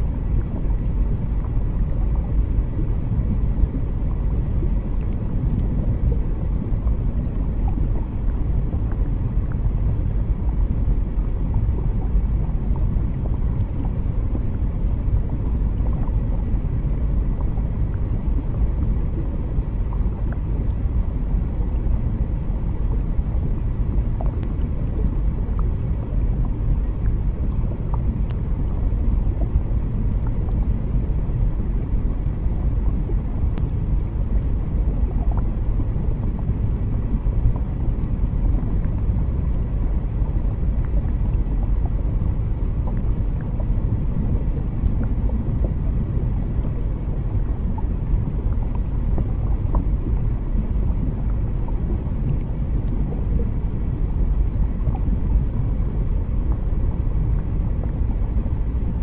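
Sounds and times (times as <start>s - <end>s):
low underwater rumble: 0.0s - 59.0s.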